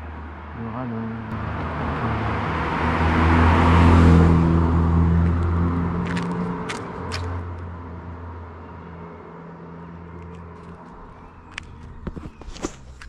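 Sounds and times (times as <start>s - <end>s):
sports car driving past: 1.2s - 12.8s.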